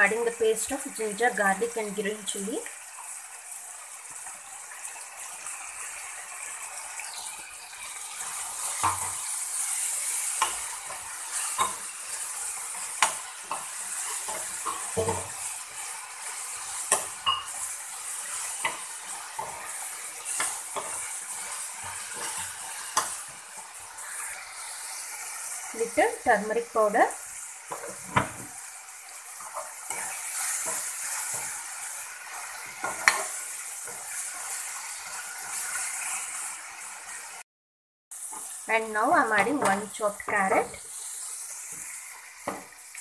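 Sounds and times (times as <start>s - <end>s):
masala sizzling in oil: 0.0s - 37.4s, 38.1s - 43.0s.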